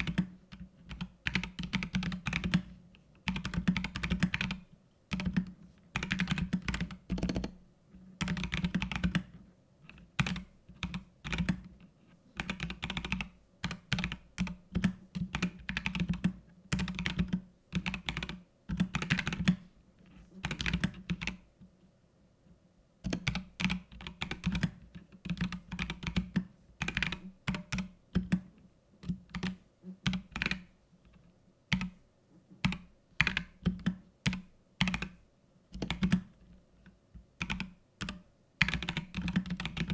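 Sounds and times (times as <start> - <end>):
mechanical keyboard typing: 0.0 - 7.6, 8.2 - 11.8, 12.4 - 19.6, 20.4 - 21.4, 23.0 - 30.7, 31.7 - 32.0, 32.6 - 36.3, 37.4 - 39.9.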